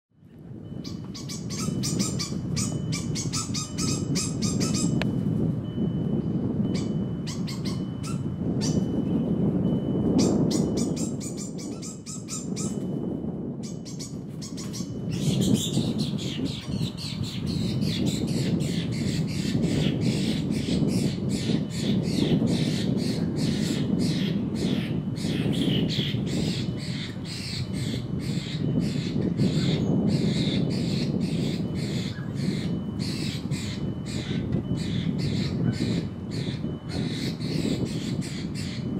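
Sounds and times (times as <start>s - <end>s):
steady low rumble: 0.2s - 38.9s
birds squawking: 0.8s - 5.0s, 6.7s - 8.9s, 10.2s - 12.9s, 13.6s - 38.9s.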